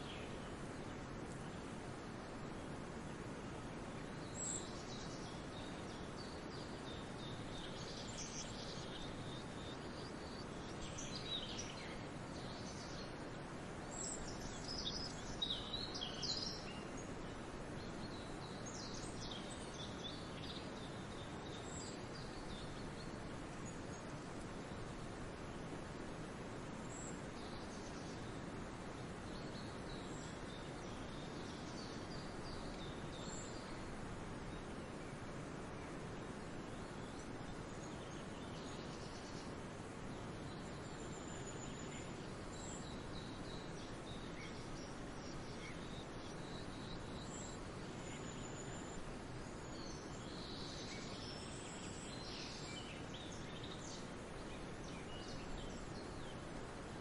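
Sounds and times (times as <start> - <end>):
outdoor background hiss: 0.0 - 57.0
songbirds chirping: 0.0 - 57.0.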